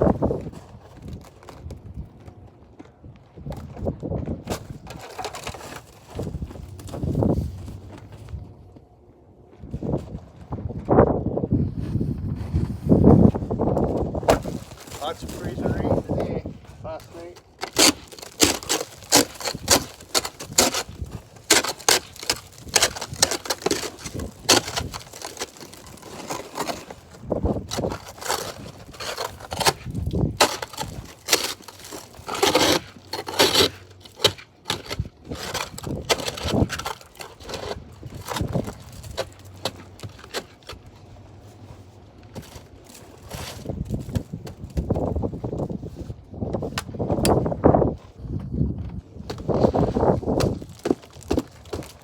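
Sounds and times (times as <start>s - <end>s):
ice crust crunching and cracking: 0.0s - 8.5s, 12.7s - 41.6s, 42.2s - 45.8s, 49.2s - 52.0s.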